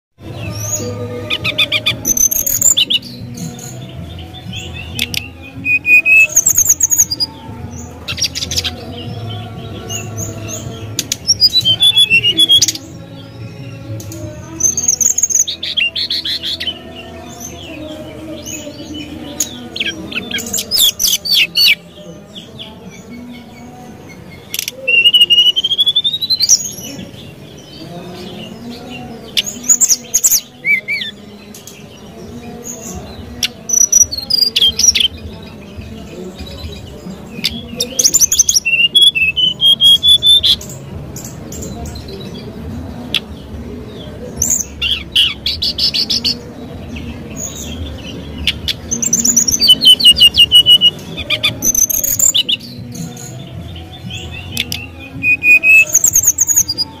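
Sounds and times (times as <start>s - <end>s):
bird singing chirps and trills: 0.2s - 57.0s.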